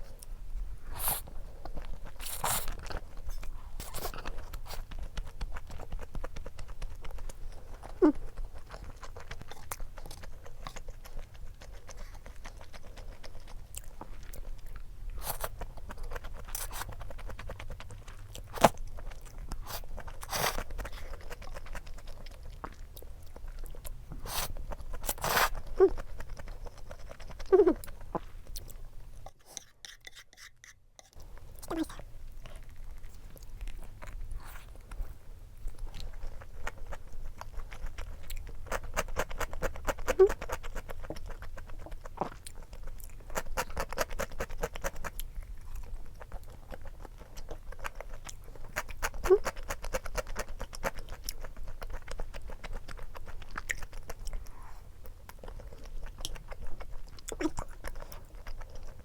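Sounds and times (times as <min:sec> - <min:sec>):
chewing and biting: 0:01.0 - 0:30.2, 0:31.1 - 0:59.0.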